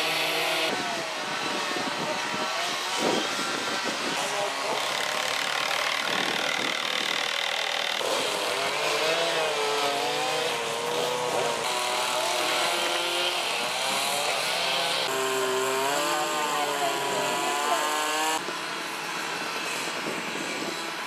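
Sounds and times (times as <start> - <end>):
chainsaws revving: 0.0 - 18.4.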